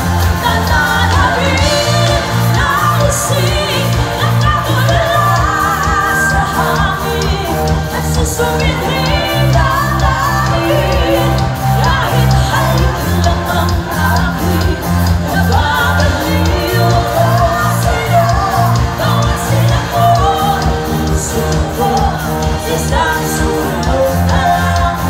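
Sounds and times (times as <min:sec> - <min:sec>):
bass guitar: 0:00.0 - 0:25.0
electric guitar: 0:00.0 - 0:25.0
woman singing: 0:00.0 - 0:25.0.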